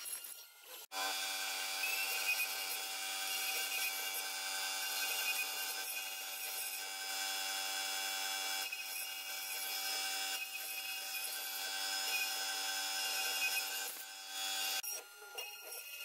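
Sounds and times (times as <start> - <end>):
bit cutting wood: 0.0 - 16.0
router spindle whining: 0.0 - 16.0.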